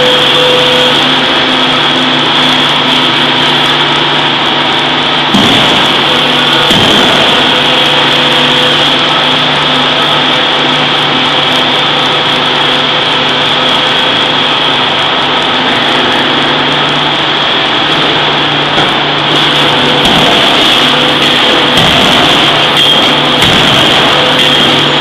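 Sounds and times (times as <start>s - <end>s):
forging machinery humming: 0.0s - 25.0s.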